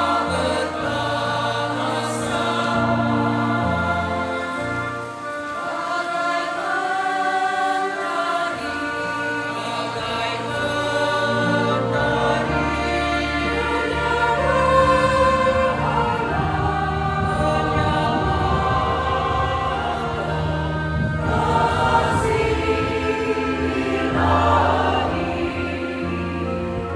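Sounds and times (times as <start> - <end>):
choir singing in parts: 0.0 - 26.9.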